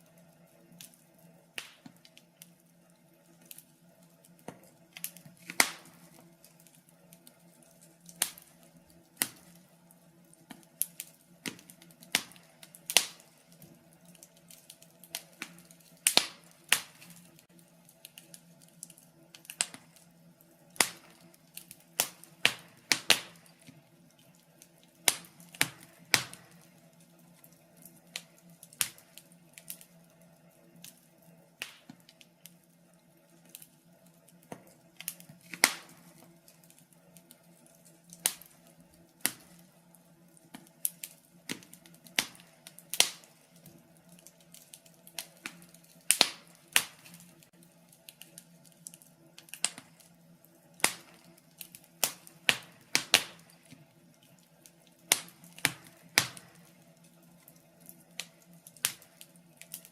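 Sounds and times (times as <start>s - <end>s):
burning logs crackling and popping: 0.0s - 59.9s.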